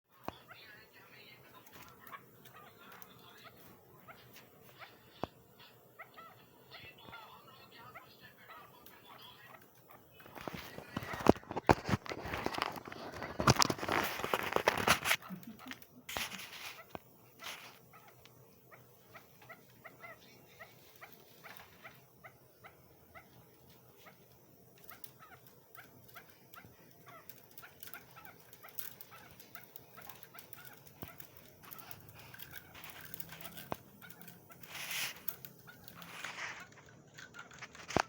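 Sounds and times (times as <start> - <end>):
partridge clucking calls: 0.2 - 38.0.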